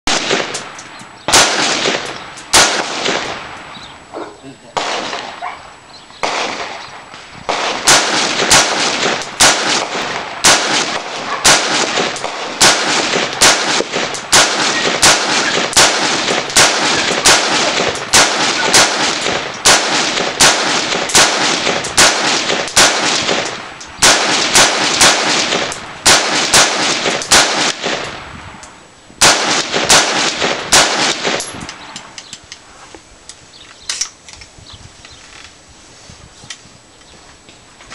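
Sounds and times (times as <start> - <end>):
rifle shots echoing: 0.1 - 28.3, 29.2 - 32.2.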